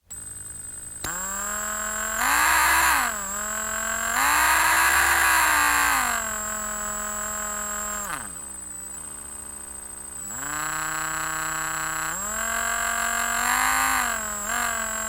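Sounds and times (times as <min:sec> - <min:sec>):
electric drill motor whirring: 0:00.0 - 0:15.0.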